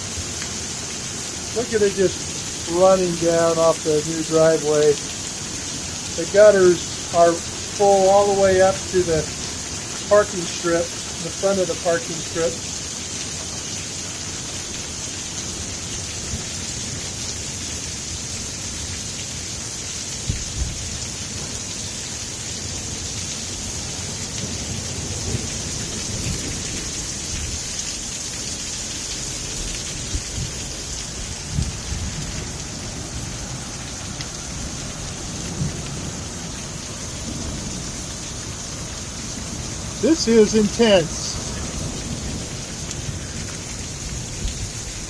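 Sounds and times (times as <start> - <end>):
heavy rain pouring: 0.0 - 45.0.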